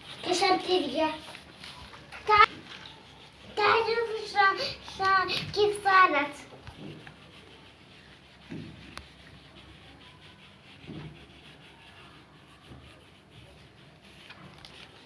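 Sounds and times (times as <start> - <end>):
colouring scratching on paper: 0.0 - 15.0.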